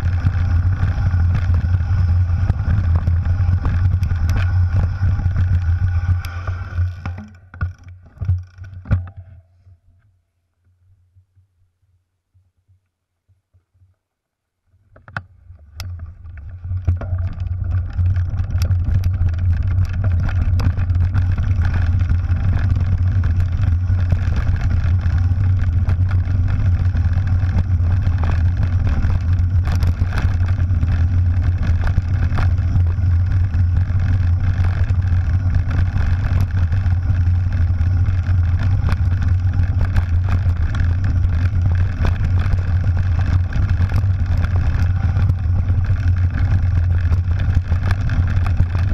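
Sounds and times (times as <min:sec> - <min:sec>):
wind rumble on microphone: 0:00.0 - 0:09.4, 0:15.8 - 0:48.9
bike rattles and clicks: 0:00.0 - 0:09.8, 0:14.9 - 0:48.9.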